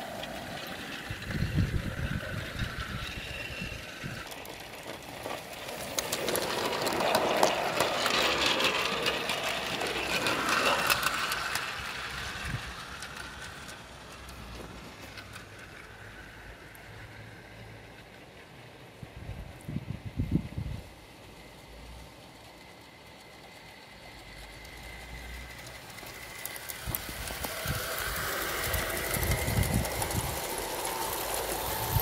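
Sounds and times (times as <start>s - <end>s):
model train wheels rattling and clicking: 0.0s - 32.0s.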